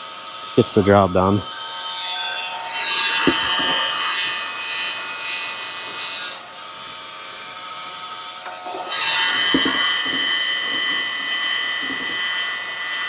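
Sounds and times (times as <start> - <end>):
heat gun whining: 0.0 - 13.0.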